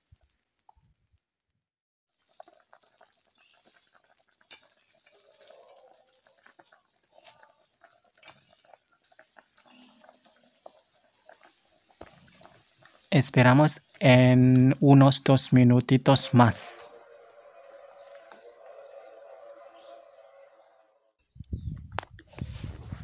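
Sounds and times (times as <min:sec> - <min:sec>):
soup bubbling in a pot: 0:00.0 - 0:01.5, 0:02.1 - 0:20.6.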